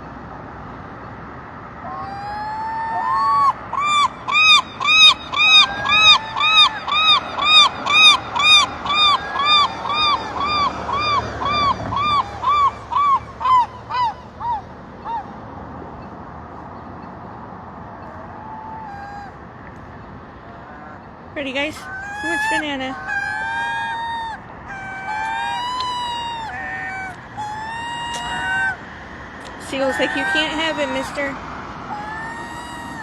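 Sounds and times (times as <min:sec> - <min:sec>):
gull long call: 0:01.8 - 0:15.4, 0:18.0 - 0:33.0.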